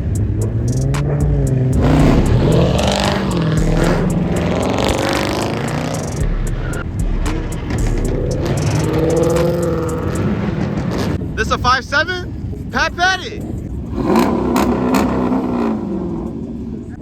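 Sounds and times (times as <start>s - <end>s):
car engines revving through exhausts: 0.0s - 17.0s.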